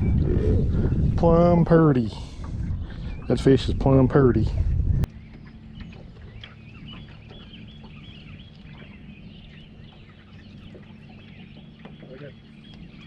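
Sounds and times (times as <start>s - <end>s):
birds chirping: 0.0s - 13.0s
low hum: 0.0s - 13.0s.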